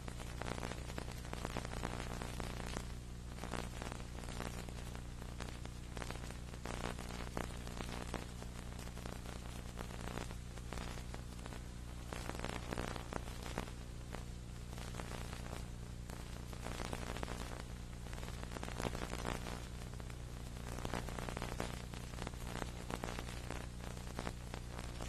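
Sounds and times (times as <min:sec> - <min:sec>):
low electrical hum: 0:00.0 - 0:25.0
tape hiss and crackle: 0:00.0 - 0:25.0.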